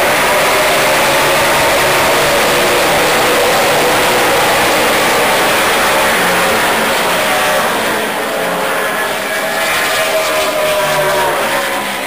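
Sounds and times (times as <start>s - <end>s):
race car engines: 0.0s - 12.0s
race car passing by: 0.0s - 12.0s.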